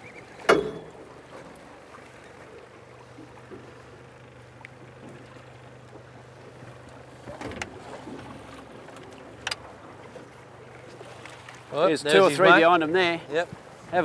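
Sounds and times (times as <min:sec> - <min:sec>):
outboard motor idling: 0:00.0 - 0:14.0
water noise: 0:00.0 - 0:14.0
wind: 0:00.0 - 0:14.0.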